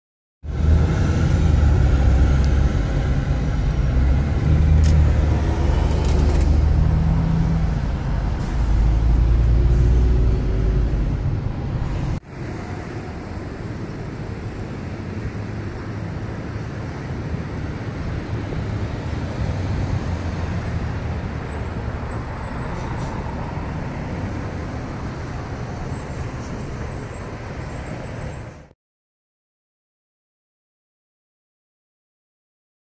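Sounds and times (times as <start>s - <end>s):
car engine and road noise: 0.4s - 28.8s
outdoor traffic noise: 0.4s - 28.8s.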